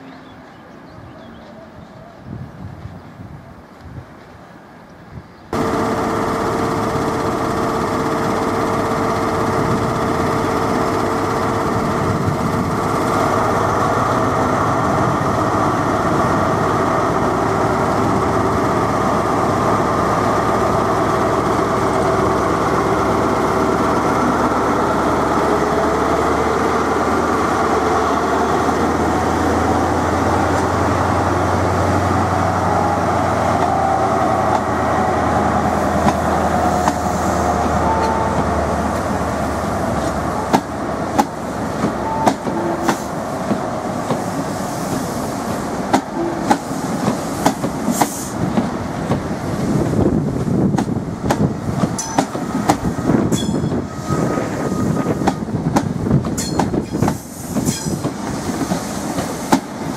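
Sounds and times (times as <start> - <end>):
train diesel engine running: 5.5 - 59.9.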